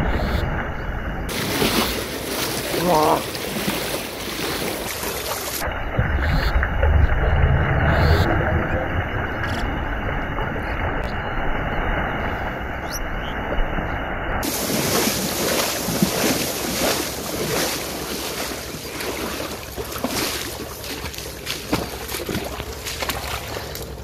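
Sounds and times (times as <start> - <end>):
person wading through water: 1.3 - 24.0.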